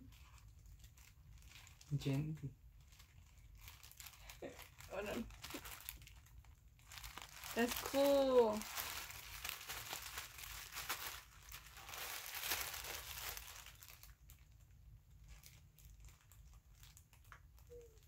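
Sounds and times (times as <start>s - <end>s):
paper wrapping crinkling: 0.0s - 18.0s.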